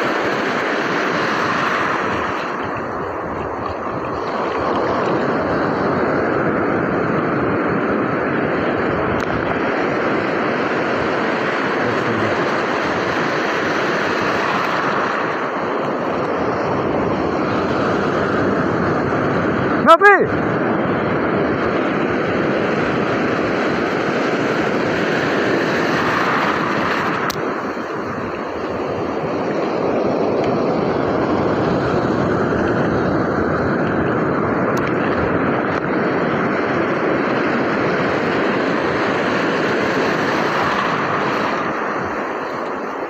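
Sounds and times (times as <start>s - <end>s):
ocean surf breaking: 0.0s - 43.0s.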